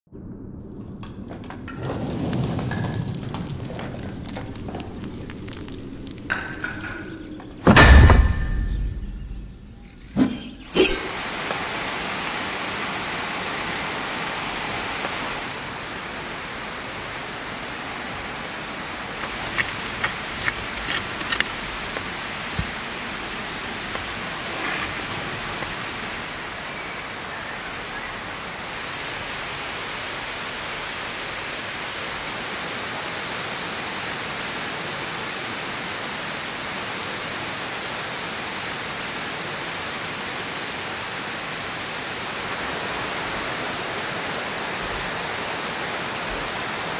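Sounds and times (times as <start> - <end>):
rushing water-like noise: 1.3 - 8.2, 10.7 - 46.9.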